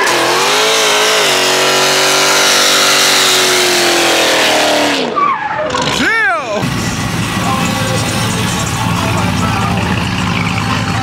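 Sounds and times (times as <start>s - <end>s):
vehicle engine revving high: 0.0s - 11.0s.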